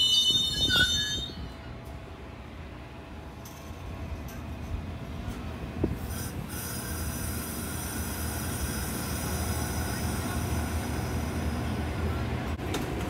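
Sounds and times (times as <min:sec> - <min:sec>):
train engine low rumble: 0:00.0 - 0:13.0.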